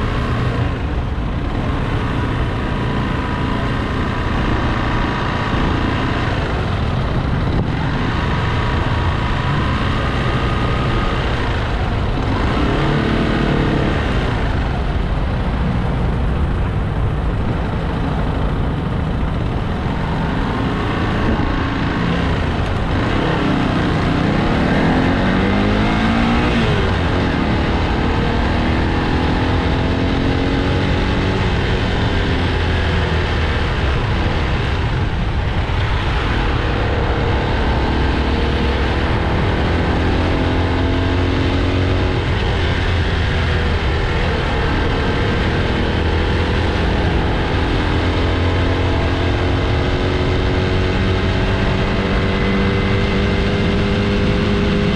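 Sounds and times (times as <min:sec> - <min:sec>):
air rush and traffic noise: 0:00.0 - 0:54.9
motorcycle engine revving: 0:00.0 - 0:54.9.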